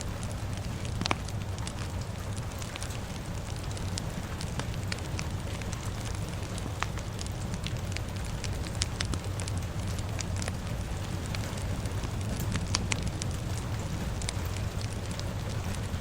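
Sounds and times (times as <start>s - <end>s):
fire crackling and popping: 0.0s - 16.0s
rain hiss: 0.0s - 16.0s
steady low rumble: 0.0s - 16.0s.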